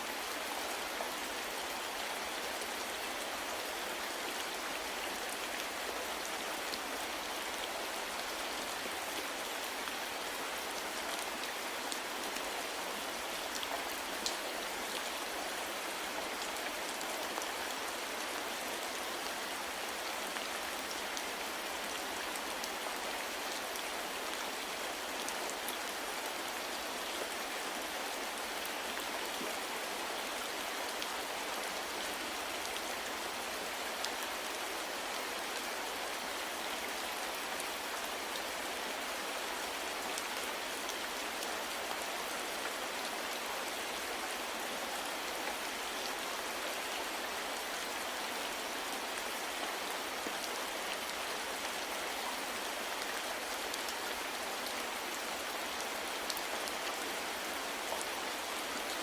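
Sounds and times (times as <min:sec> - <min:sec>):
soft rain patter: 0:00.0 - 0:59.0.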